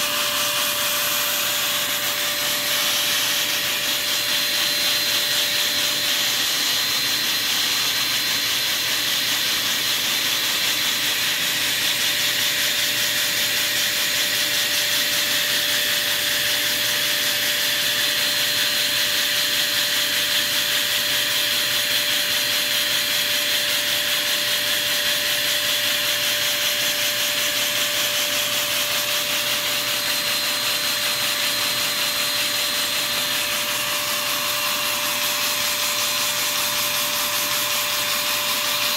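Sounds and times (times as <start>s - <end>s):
vacuum cleaner whine: 0.0s - 38.9s.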